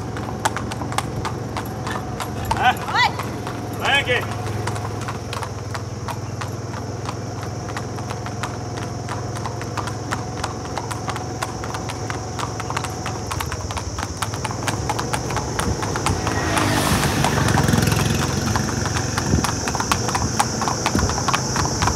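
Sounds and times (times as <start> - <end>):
hooves clip-clopping on asphalt: 0.0 - 21.9.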